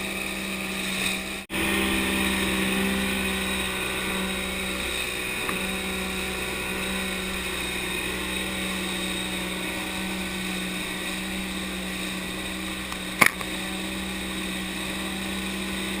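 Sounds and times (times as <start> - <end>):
boat outboard motor running: 0.0 - 16.0.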